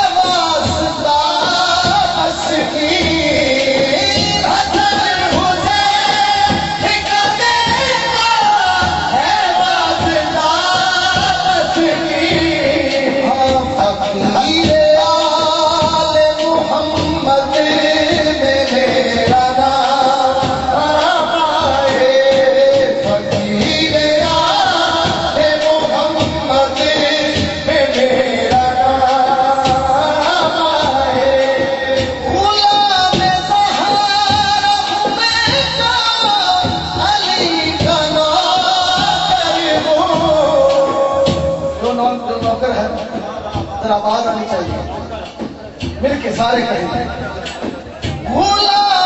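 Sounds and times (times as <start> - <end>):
man singing into microphone: 0.0 - 49.0
steady rhythmic beat: 0.0 - 49.0.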